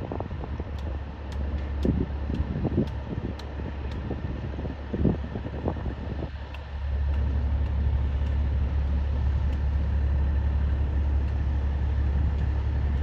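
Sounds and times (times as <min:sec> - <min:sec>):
heavy machinery engine rumbling: 0:00.0 - 0:13.0.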